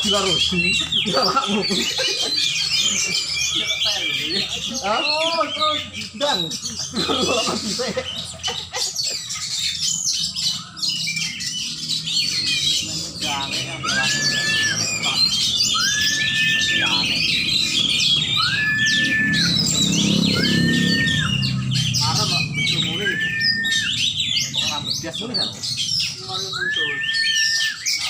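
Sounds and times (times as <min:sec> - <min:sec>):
songbirds chirping chorus: 0:00.0 - 0:28.0.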